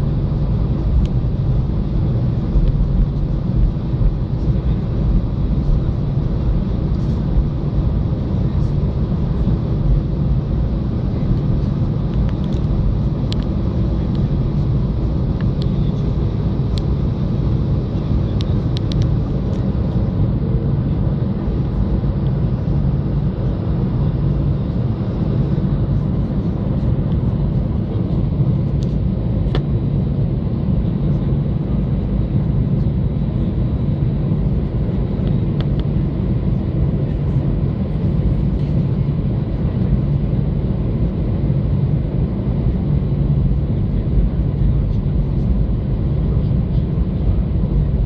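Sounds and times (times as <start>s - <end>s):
jet engine low rumble and hum: 0.0s - 48.0s.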